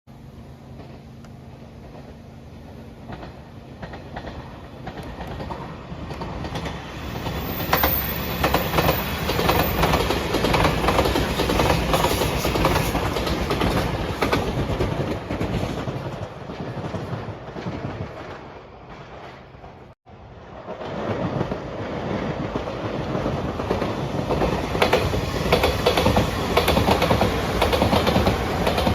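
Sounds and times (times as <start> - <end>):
electric train passing: 0.1 - 28.9
wheels clicking over rail joints: 0.7 - 19.9, 20.7 - 28.9.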